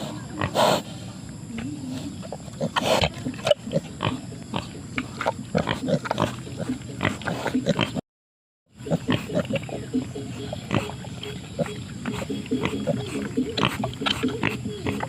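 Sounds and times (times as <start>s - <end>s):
pigs grunting: 0.0s - 1.0s, 1.8s - 8.0s, 8.8s - 15.0s.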